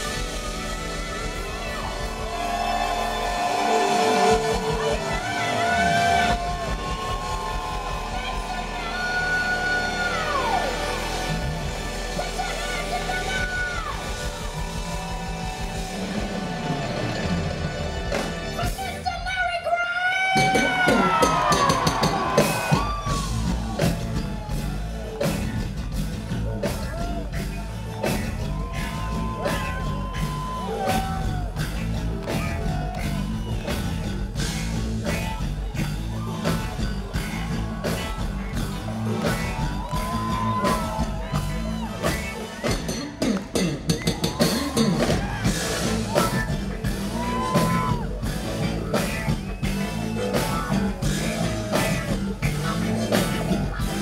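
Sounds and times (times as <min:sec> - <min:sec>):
funk band playing: 0:00.0 - 0:54.0.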